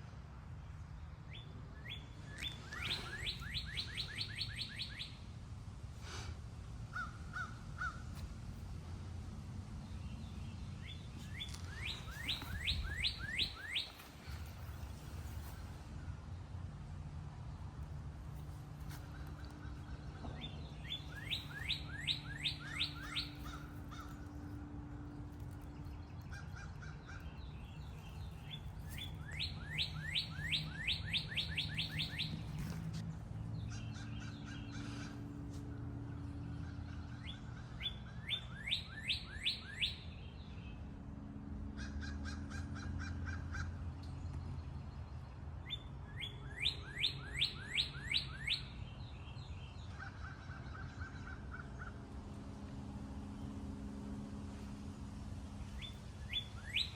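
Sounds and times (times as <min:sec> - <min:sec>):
songbird singing: 0:00.0 - 0:05.4, 0:09.6 - 0:56.9
steady low hum: 0:00.0 - 0:38.5, 0:49.7 - 0:56.9.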